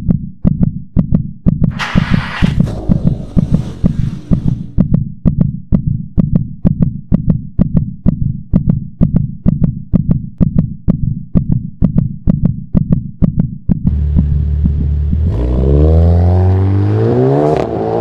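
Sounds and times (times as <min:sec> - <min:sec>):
heartbeat-like bass pulse: 0:00.0 - 0:16.4.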